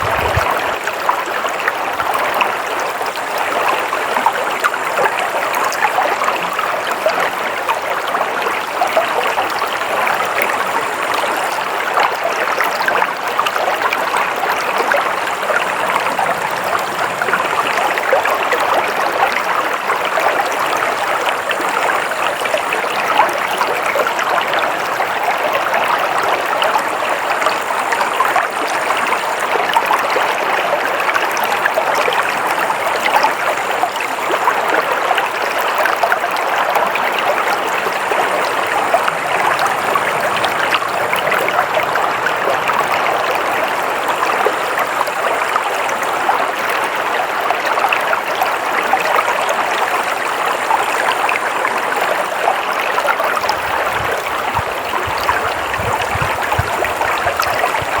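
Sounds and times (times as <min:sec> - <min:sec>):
stream water babbling over stones: 0:00.0 - 0:58.0.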